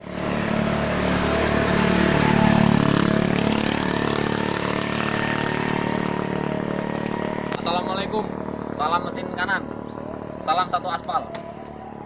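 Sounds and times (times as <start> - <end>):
rising whine: 0.0 - 12.0
vehicle engine running: 0.0 - 12.0.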